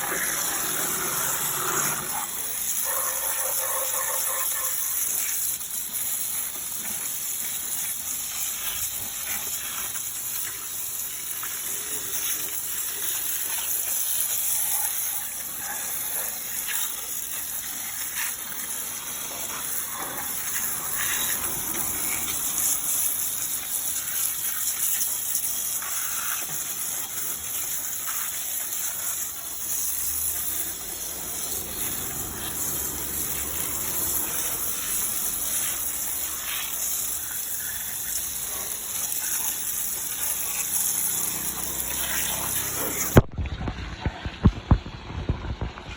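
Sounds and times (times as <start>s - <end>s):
water spraying on engine: 0.0s - 45.9s.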